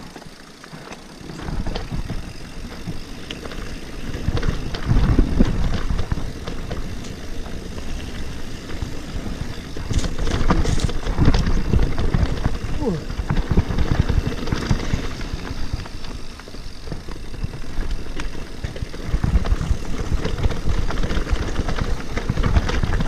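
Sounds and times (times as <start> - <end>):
bike rattling and knocking: 0.0 - 23.0
tyres rumbling on dirt: 0.1 - 23.0.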